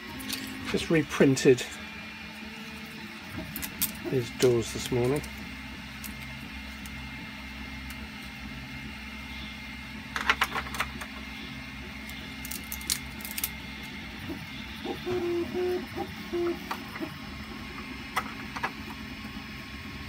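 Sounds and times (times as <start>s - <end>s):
short humming tones: 0.0s - 20.0s
steady low hum: 0.0s - 20.0s.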